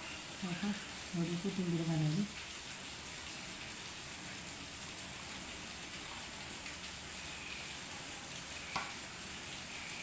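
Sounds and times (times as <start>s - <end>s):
steady sizzling hiss: 0.0s - 10.0s.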